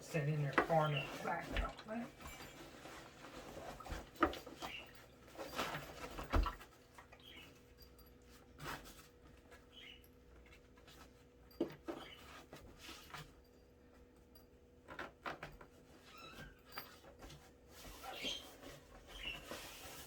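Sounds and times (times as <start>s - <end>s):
rustling and scraping of bag: 0.1s - 13.6s, 15.8s - 20.0s.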